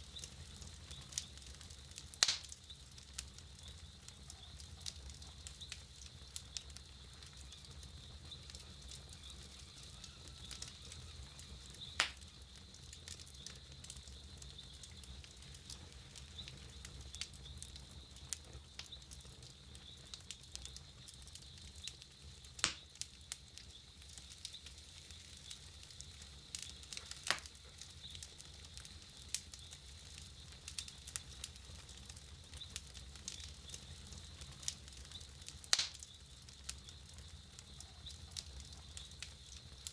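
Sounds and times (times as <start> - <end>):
campfire crackling: 0.0 - 39.9
loud fire snaps: 0.0 - 39.9.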